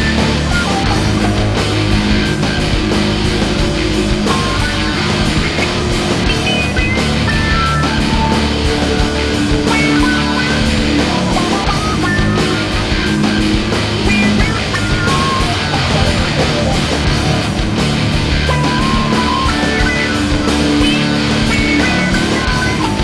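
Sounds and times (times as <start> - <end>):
loud instrumental music: 0.0 - 23.0.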